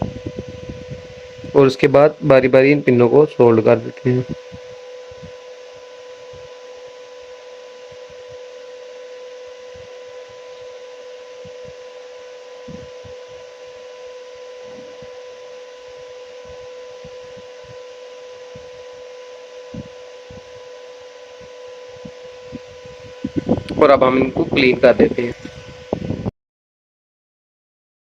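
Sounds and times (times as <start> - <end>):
electrical hum: 0.0 - 26.3
fan-like hiss: 0.0 - 26.3.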